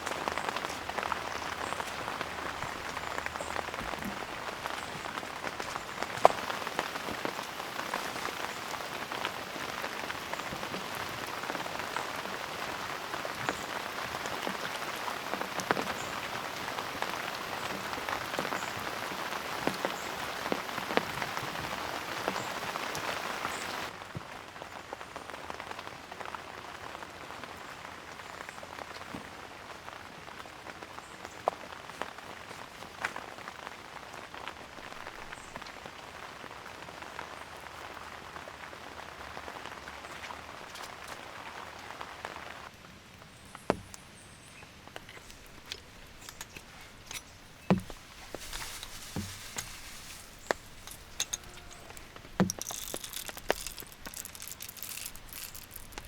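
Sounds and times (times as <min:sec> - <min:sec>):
raindrops striking close by: 0:00.0 - 0:56.0
steady rain hiss: 0:00.0 - 0:56.0.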